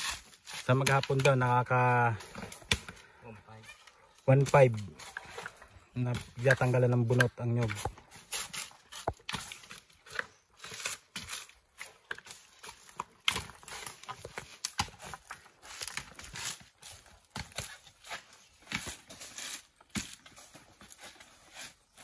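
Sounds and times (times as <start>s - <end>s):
coconut husk ripping and cracking: 0.0s - 3.0s, 3.7s - 21.0s.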